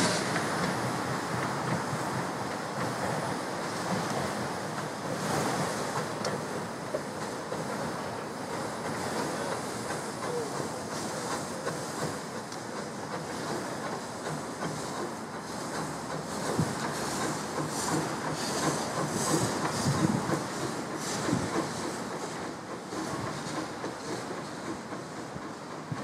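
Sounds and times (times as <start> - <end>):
steam hissing: 0.0 - 26.0
train wheels on rails: 0.0 - 26.0.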